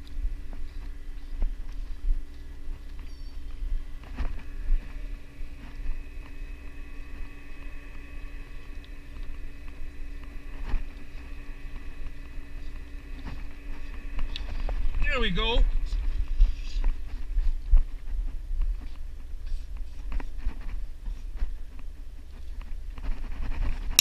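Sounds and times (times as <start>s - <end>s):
boat engine humming: 0.0s - 19.8s
wind rumble on microphone: 0.0s - 24.0s.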